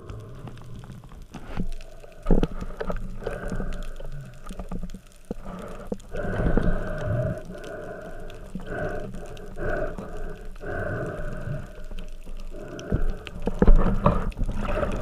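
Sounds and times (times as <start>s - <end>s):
underwater water rushing: 0.0s - 15.0s.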